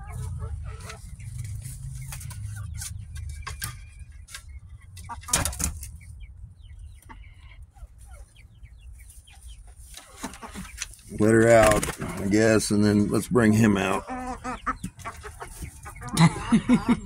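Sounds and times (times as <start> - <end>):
birds rustling in coop: 0.0 - 7.2, 7.8 - 16.4
chickens clucking softly: 0.0 - 17.0.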